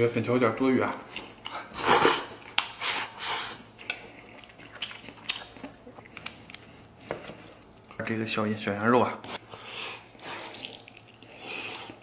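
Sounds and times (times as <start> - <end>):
person eating noisily: 1.0 - 8.0, 9.2 - 12.0
chewing: 1.1 - 8.0, 9.2 - 12.0.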